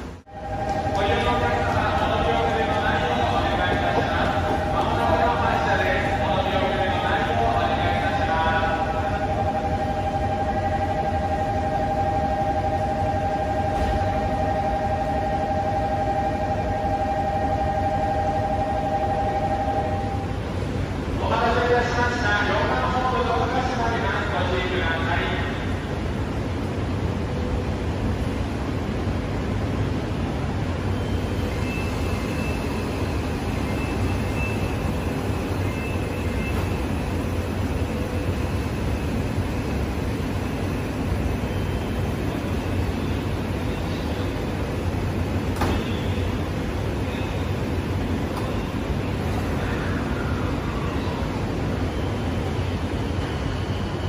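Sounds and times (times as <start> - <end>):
electric train humming: 0.0 - 54.0.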